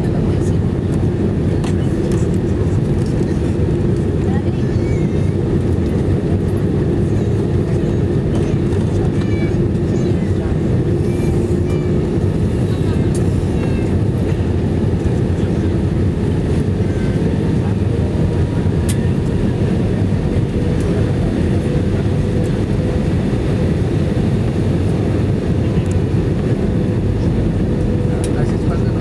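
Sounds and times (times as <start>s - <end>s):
aircraft cabin engine rumble: 0.0s - 29.0s.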